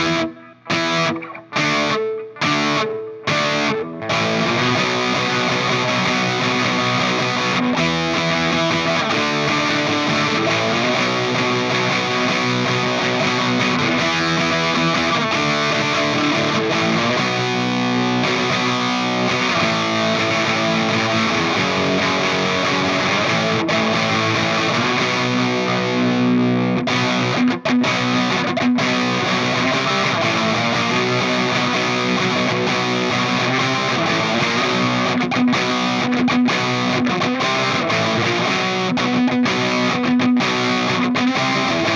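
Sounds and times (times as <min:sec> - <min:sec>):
distorted electric guitar: 0:00.0 - 0:41.9.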